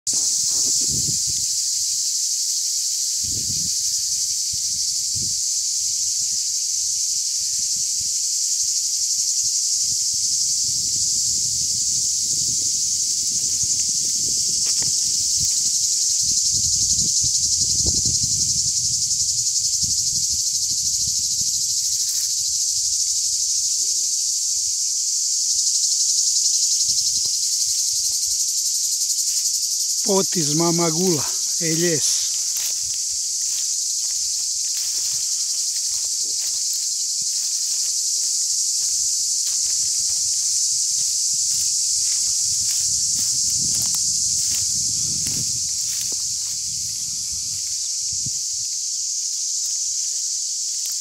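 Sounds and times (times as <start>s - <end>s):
cicadas buzzing: 0.0s - 51.0s.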